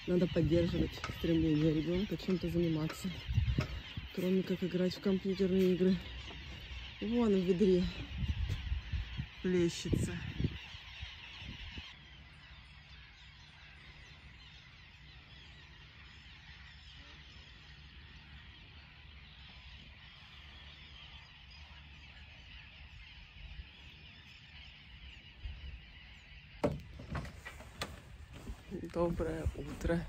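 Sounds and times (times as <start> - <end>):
geese calling: 0.0 - 30.0
many birds calling: 0.0 - 30.0.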